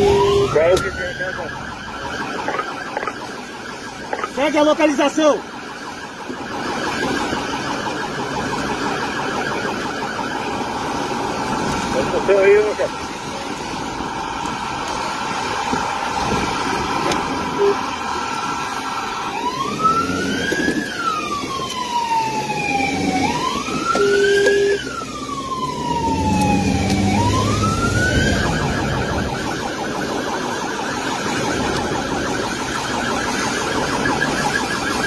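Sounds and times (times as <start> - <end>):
car engine and road noise: 0.0 - 35.0
police siren wailing and yelping: 0.0 - 35.0.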